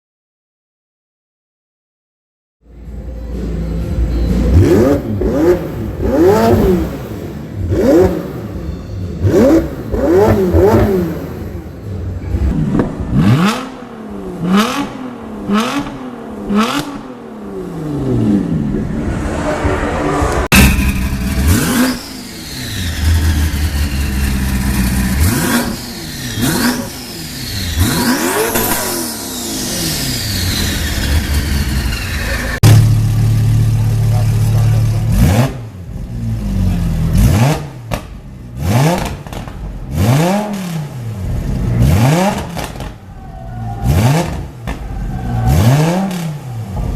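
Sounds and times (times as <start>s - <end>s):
sports car engines revving: 2.7s - 46.9s.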